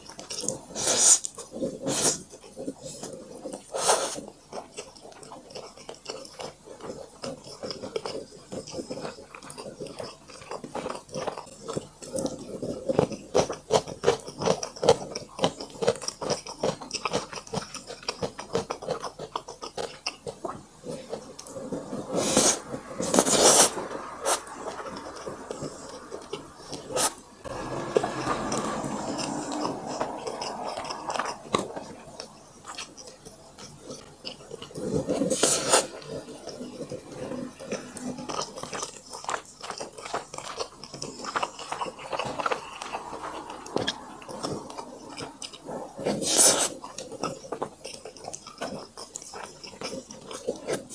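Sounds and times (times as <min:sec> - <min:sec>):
chewing and biting food: 0:00.0 - 0:50.9.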